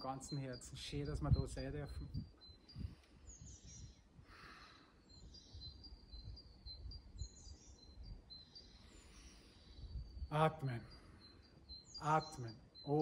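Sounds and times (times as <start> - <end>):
wind rumble on microphone: 0.0 - 4.5, 5.1 - 11.1
small birds chirping: 0.0 - 13.0.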